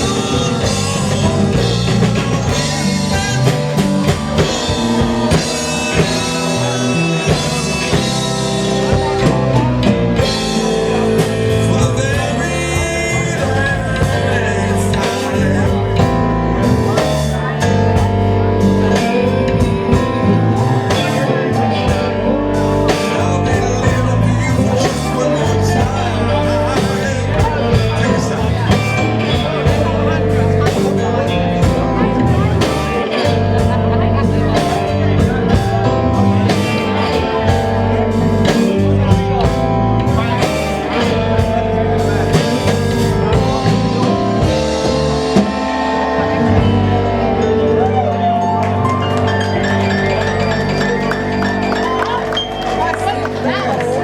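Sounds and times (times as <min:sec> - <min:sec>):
electric guitar: 0:00.0 - 0:54.0
live blues band playing: 0:00.0 - 0:54.0.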